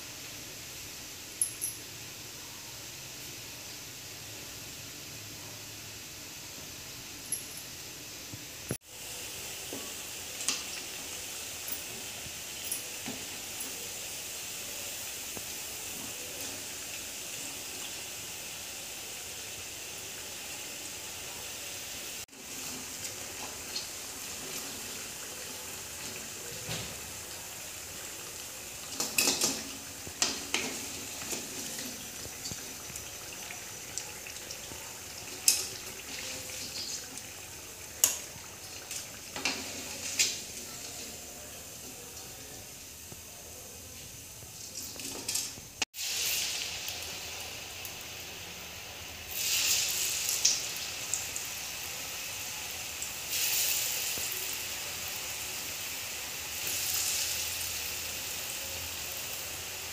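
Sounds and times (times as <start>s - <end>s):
deep-frying sizzle in oil: 0.0s - 59.9s.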